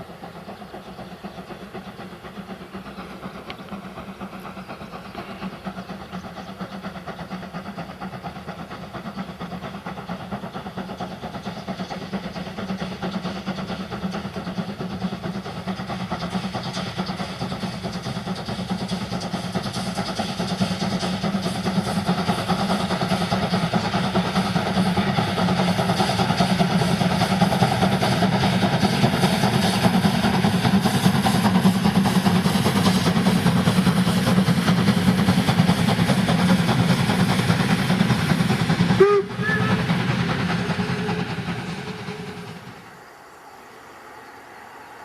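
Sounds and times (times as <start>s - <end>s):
locomotive running: 0.0s - 45.0s.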